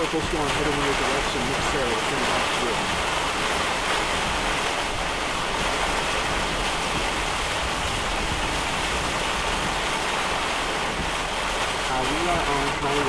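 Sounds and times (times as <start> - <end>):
heavy rain beating on a vehicle: 0.0 - 13.0.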